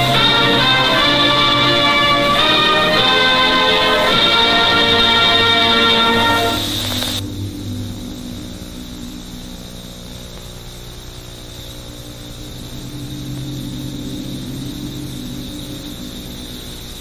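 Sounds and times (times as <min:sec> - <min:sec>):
even hiss: 0:00.0 - 0:17.0
steady low hum: 0:00.0 - 0:17.0.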